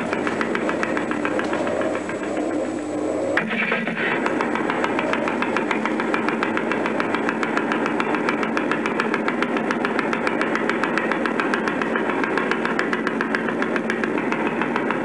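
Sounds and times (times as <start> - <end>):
ride motor humming: 0.0 - 15.0.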